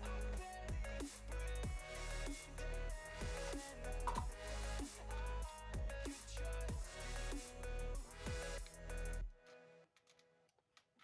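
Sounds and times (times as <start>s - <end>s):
electronic music with heavy bass: 0.0s - 9.3s.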